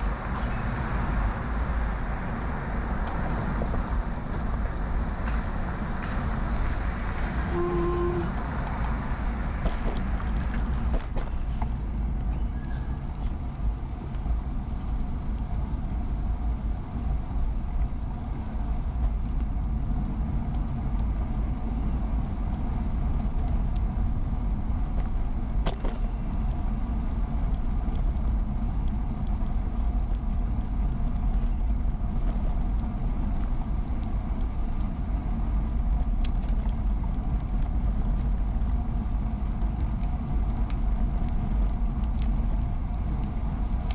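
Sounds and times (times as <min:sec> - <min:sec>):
bicycle tyre noise: 0:00.0 - 0:43.9
wind rumble on microphone: 0:00.0 - 0:43.9.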